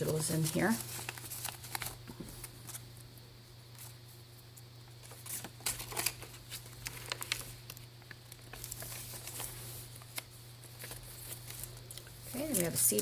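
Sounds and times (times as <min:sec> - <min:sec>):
paper pages rustling: 0:00.0 - 0:03.1, 0:04.9 - 0:13.0.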